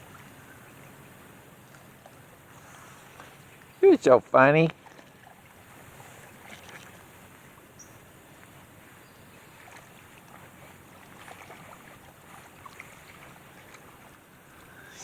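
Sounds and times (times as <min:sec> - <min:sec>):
water lapping and splashing: 0:00.0 - 0:15.0.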